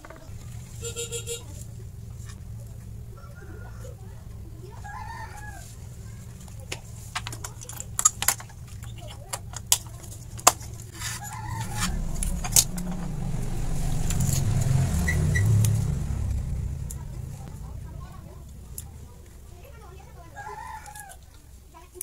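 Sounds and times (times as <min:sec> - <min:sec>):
low rumble: 0:00.0 - 0:21.8.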